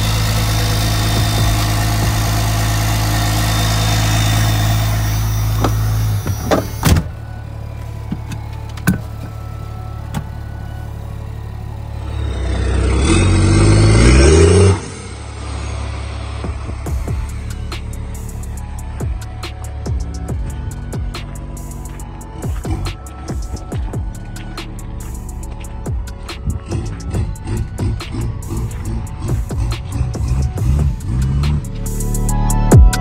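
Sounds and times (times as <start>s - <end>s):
diesel engine idling: 0.0s - 33.0s
rising pitched sound: 0.0s - 33.0s.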